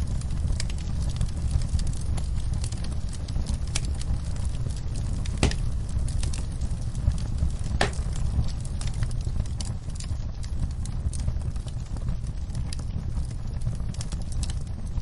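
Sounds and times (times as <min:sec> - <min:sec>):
sharp pops of fire: 0:00.0 - 0:15.0
wood fire crackling: 0:00.0 - 0:15.0.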